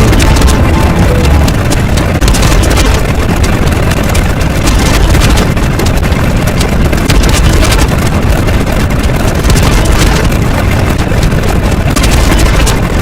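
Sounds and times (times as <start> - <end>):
fine rapid crackling: 0.0 - 13.0
rough rumbling noise: 0.0 - 13.0.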